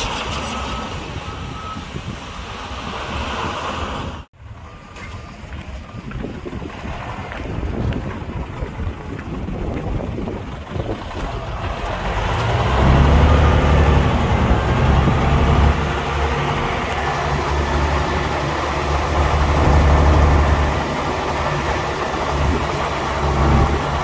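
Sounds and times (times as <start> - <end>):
heavy diesel engine running: 4.4 - 24.0.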